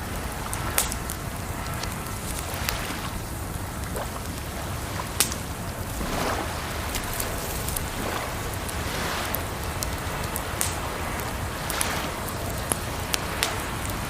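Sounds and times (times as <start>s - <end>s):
running water: 0.0s - 14.0s
wood fire crackling and popping: 0.0s - 14.0s.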